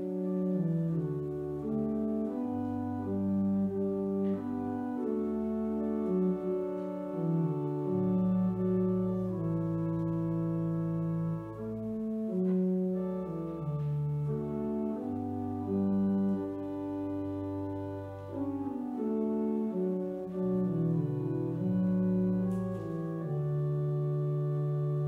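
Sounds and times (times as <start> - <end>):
church organ sustained chords: 0.0 - 25.0.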